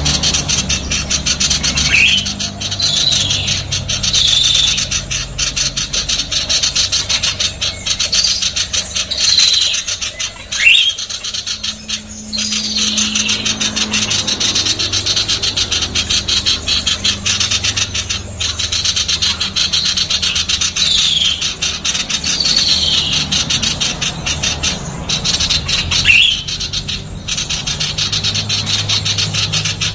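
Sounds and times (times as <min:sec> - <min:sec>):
bird harsh rapid chatter: 0:00.0 - 0:29.9.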